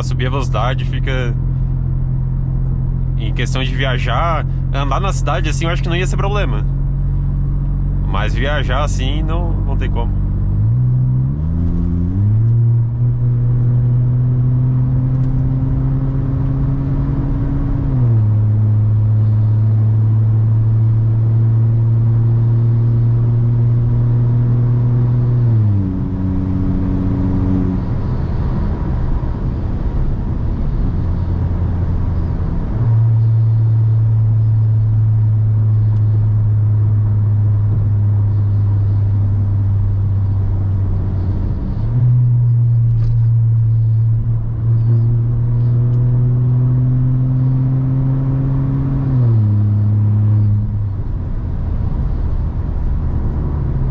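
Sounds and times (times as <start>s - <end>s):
loud low car exhaust drone: 0.0s - 53.9s.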